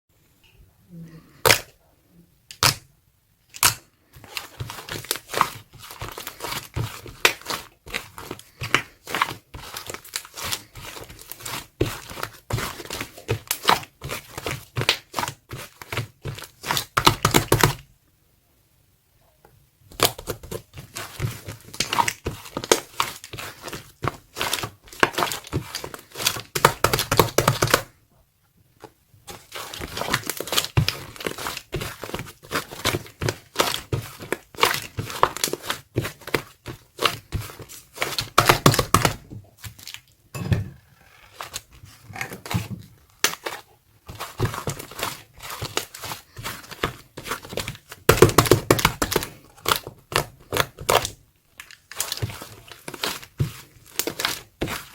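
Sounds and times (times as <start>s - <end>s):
clay slime squished by hand: 3.5s - 17.9s, 19.9s - 27.9s, 28.8s - 54.9s.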